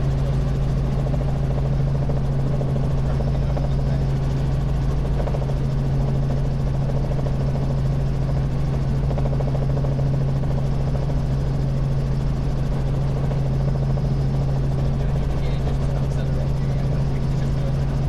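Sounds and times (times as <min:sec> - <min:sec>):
helicopter engine and rotors droning: 0:00.0 - 0:18.0.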